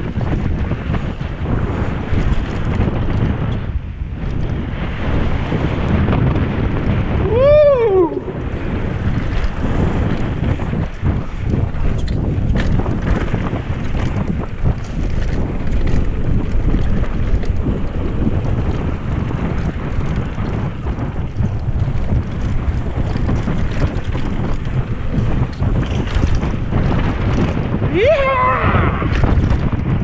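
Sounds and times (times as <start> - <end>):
bike knocks and rattles: 0.0 - 6.9, 8.5 - 27.9, 29.1 - 30.0
tyres rolling on dirt trail: 0.0 - 30.0
wind buffeting microphone: 0.0 - 30.0.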